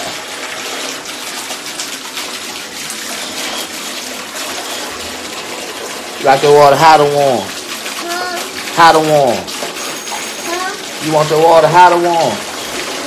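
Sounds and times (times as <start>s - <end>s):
water pouring into bathtub: 0.0s - 13.0s.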